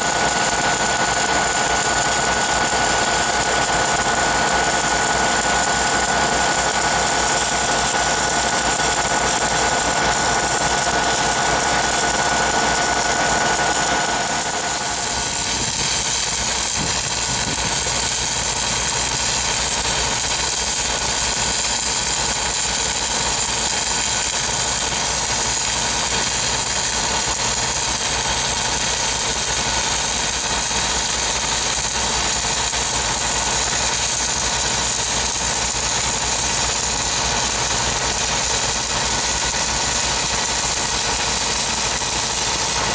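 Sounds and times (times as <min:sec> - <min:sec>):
welding machine engine running: 0:00.0 - 0:42.9.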